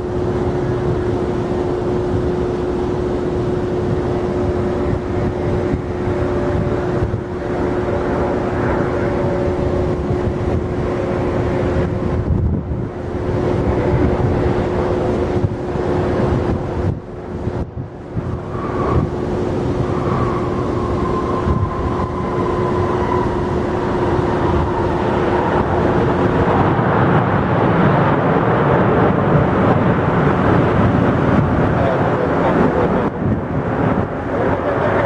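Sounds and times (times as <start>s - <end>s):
jet engine whine: 0.0s - 35.0s
jet engines rushing: 0.0s - 35.0s.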